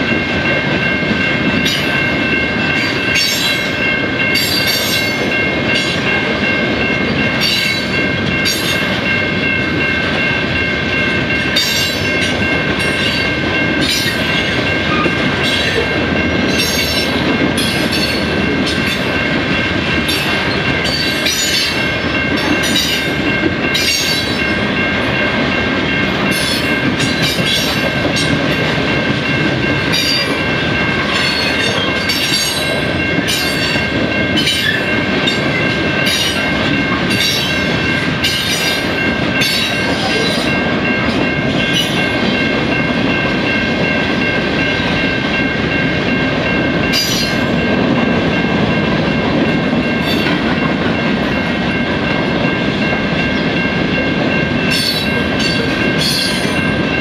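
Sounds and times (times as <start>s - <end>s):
level-crossing bell ringing: 0.0s - 57.0s
train wheels rumbling: 0.0s - 57.0s.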